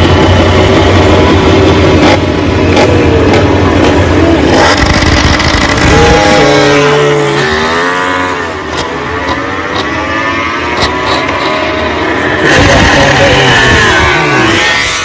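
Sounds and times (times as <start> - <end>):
race bike engines revving: 0.0 - 15.0.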